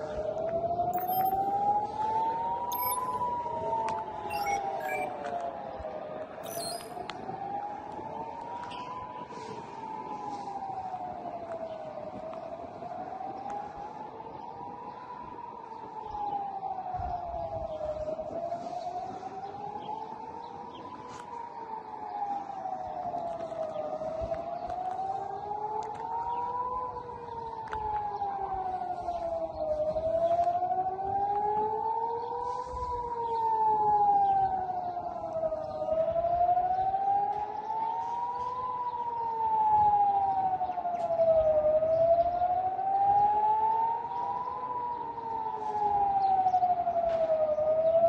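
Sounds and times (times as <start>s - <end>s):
air-raid siren wailing: 0.0s - 48.0s.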